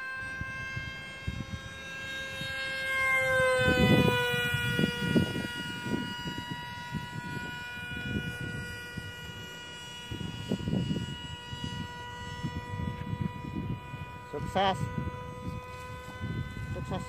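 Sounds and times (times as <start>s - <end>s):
model jet motor whine: 0.0s - 17.0s
wind rumbling on microphone: 0.2s - 17.0s.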